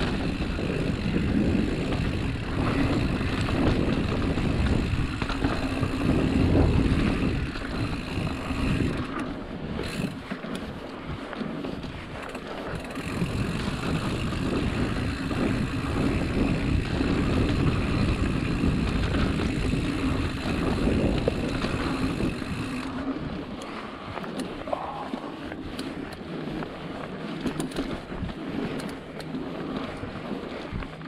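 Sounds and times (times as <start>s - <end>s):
wind rushing over microphone: 0.0s - 26.6s
bike tyres rolling on dirt: 0.0s - 31.0s.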